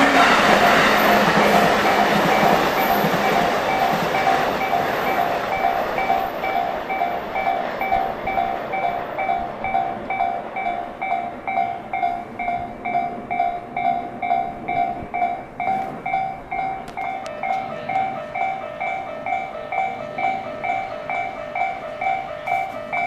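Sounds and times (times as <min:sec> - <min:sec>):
level-crossing warning bell: 0:00.0 - 0:23.0
passing electric train rushing: 0:00.0 - 0:23.0.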